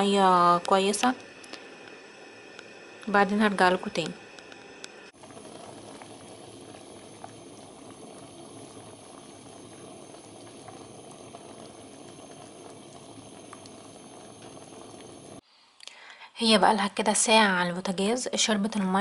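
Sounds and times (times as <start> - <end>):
water boiling and bubbling: 0.0 - 15.4.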